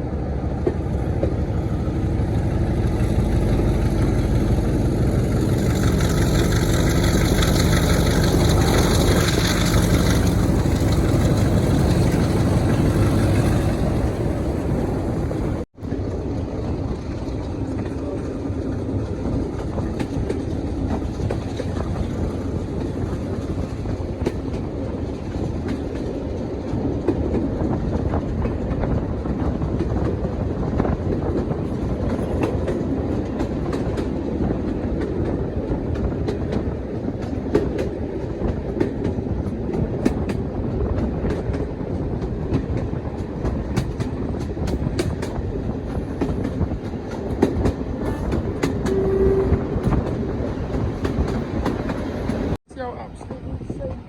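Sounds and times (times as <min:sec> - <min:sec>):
train rumbling: 0:00.0 - 0:54.0
wheels clicking over rail joints: 0:00.6 - 0:52.6.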